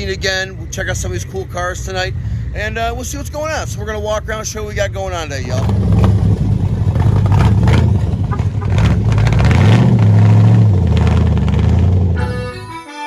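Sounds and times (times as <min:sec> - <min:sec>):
car engine rumbling and revving: 0:00.0 - 0:12.5.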